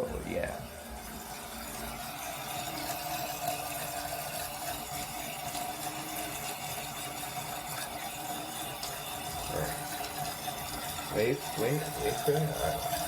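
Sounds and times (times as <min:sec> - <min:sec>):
hissing water: 0:00.0 - 0:13.0
toilet fill valve whine: 0:00.0 - 0:13.0.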